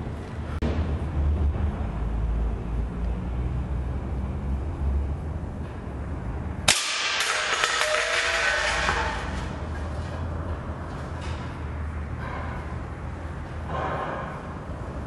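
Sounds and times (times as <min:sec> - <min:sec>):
steady low hum: 0:00.0 - 0:07.2, 0:09.0 - 0:15.0.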